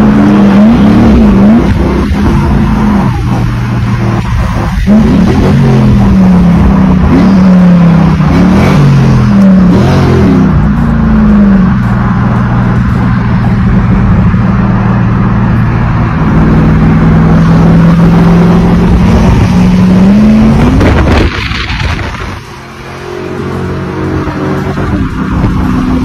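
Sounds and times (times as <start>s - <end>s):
muscle car exhaust drone: 0.0s - 26.0s.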